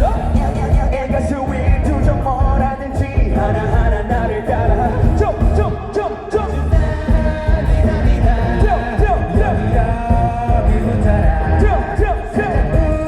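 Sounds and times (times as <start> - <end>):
live rock band playing: 0.0 - 13.0
man singing: 0.0 - 13.0.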